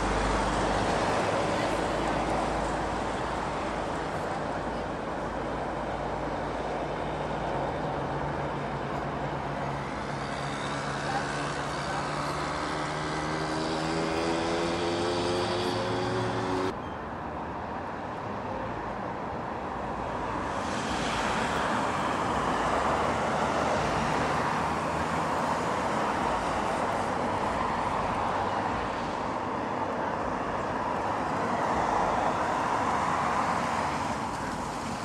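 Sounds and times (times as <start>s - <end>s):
distant road traffic: 0.0s - 35.0s.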